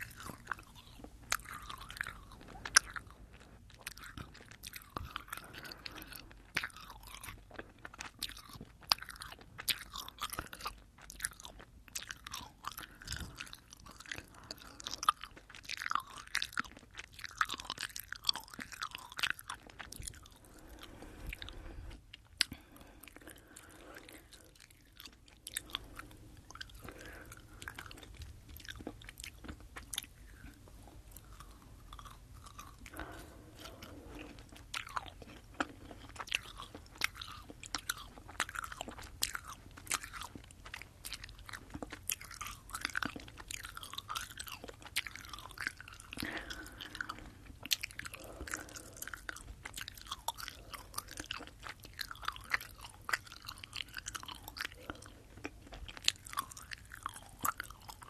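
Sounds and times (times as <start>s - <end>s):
chewing gummy candy mouth clicks: 0.0s - 58.0s.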